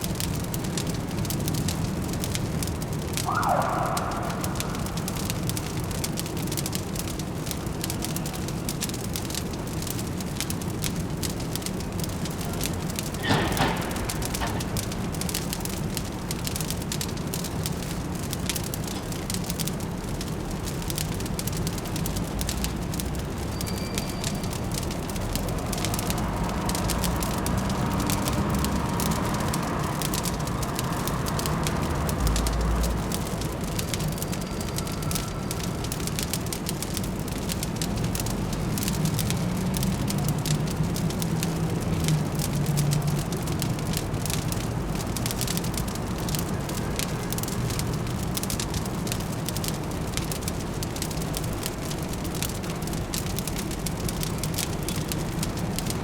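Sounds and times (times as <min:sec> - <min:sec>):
distant city traffic hum: 0:00.0 - 0:56.0
wood fire crackling: 0:00.0 - 0:56.0.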